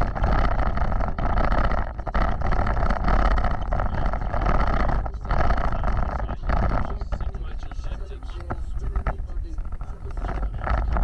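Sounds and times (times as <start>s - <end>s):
low rumble: 0.0s - 11.0s
off-road vehicle engine running: 0.0s - 11.0s.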